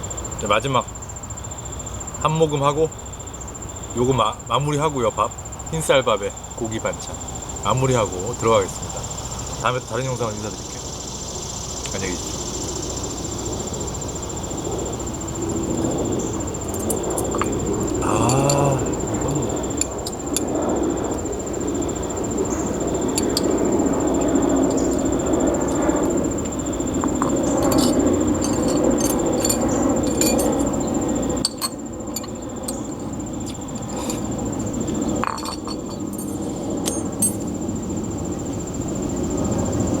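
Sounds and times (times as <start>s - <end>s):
high-pitched insect drone: 0.0s - 40.0s.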